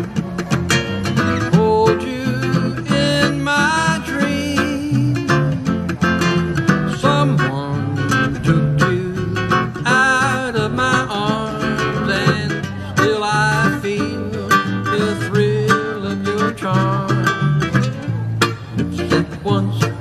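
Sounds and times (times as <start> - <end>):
acoustic country song with guitar: 0.0 - 20.0.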